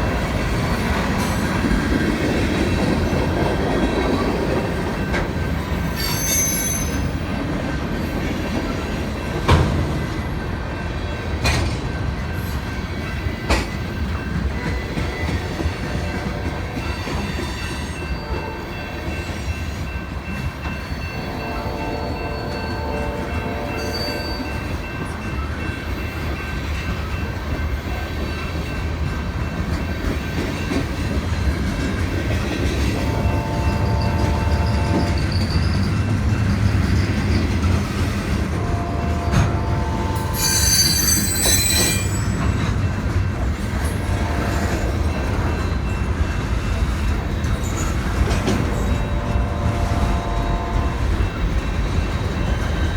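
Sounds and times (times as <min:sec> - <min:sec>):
freight train rumbling past: 0:00.0 - 0:52.9
train wheels squealing: 0:00.7 - 0:38.4, 0:39.0 - 0:52.9.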